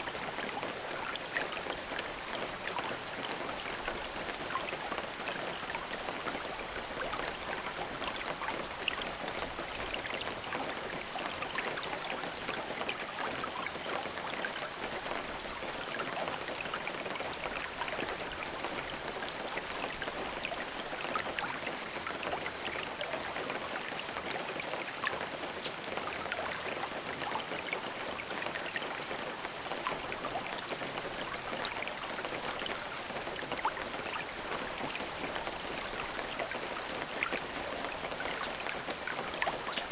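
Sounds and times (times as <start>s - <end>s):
raindrops ticking on a surface: 0.0s - 39.9s
steady rain falling: 0.0s - 39.9s.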